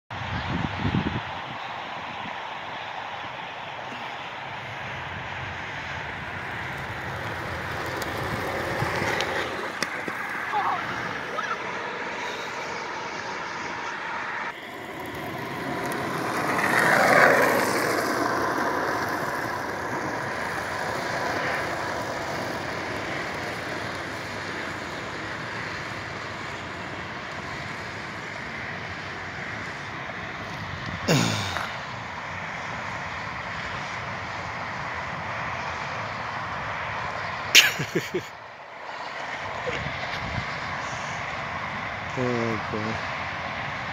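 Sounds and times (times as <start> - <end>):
outdoor noise: 0.1 - 43.9
road traffic passing: 0.1 - 43.9.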